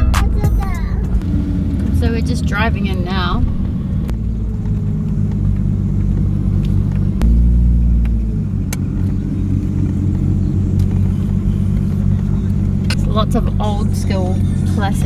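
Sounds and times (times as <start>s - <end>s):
car engine rumble from cabin: 0.0s - 15.0s.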